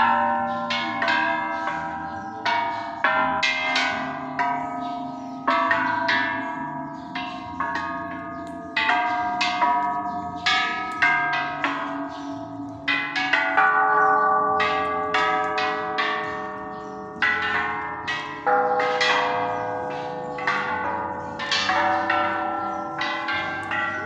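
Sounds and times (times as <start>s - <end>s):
temple bells ringing: 0.0s - 24.0s.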